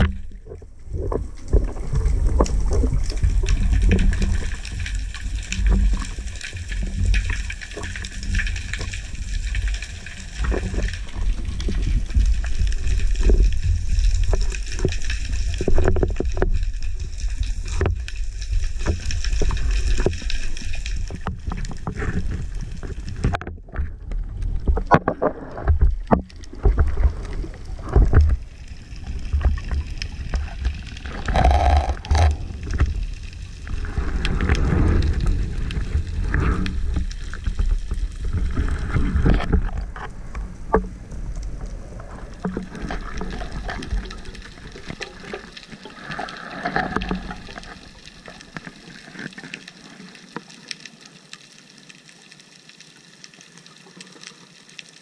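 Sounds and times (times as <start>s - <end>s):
underwater rumble of moving water: 0.0s - 55.0s.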